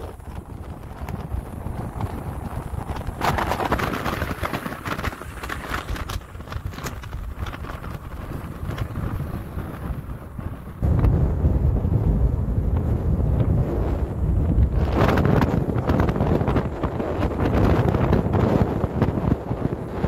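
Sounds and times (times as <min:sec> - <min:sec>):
crackling and rustling: 0:00.0 - 0:20.0
wind buffeting microphone: 0:00.0 - 0:20.0.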